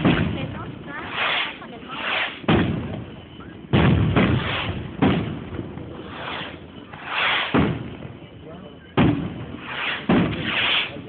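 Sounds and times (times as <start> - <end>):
firework bangs with echo: 0.0 - 11.0.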